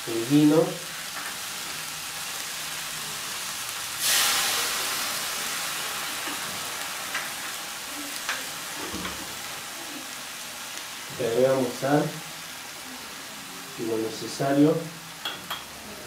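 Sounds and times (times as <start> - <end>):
fish sizzling in a frying pan: 0.0 - 16.0
wine hissing in hot pan: 0.0 - 16.0.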